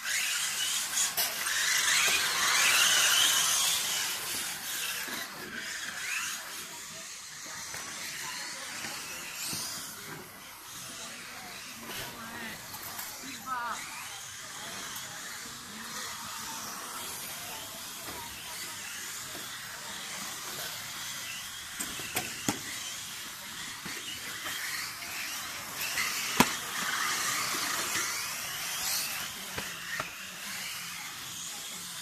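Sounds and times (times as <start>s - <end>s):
rc car motor whining: 0.0s - 32.0s.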